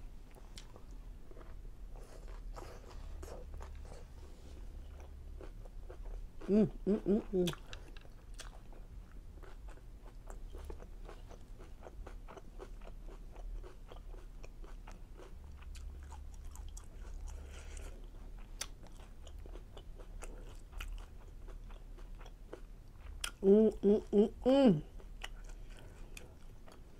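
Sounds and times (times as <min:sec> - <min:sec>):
close-up chewing: 0:00.2 - 0:23.4, 0:24.8 - 0:26.9.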